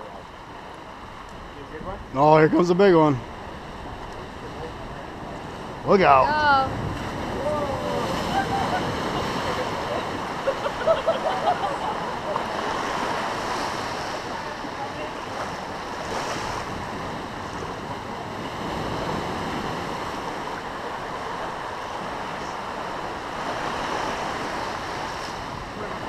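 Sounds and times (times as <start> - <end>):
ocean surf washing over rocks: 0.1 - 26.0.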